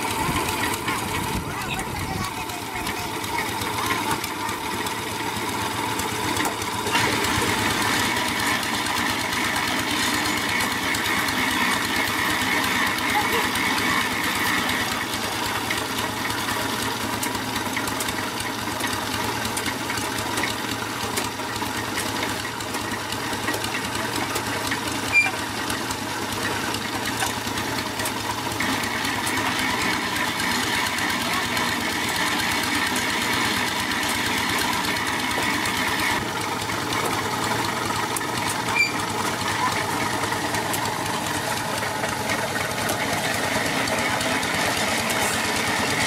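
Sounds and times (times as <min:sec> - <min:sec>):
small engine running steadily: 0:00.0 - 0:46.0.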